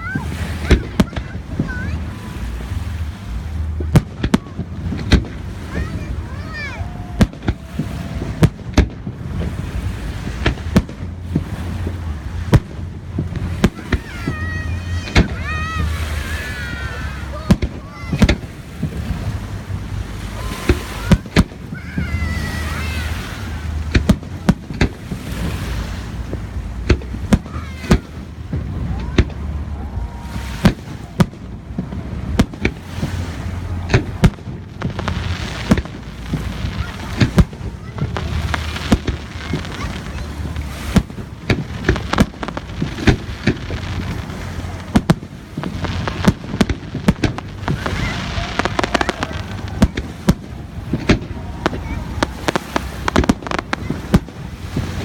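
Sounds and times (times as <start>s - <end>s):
fireworks exploding: 0.0s - 55.0s
low background rumble: 0.0s - 55.0s.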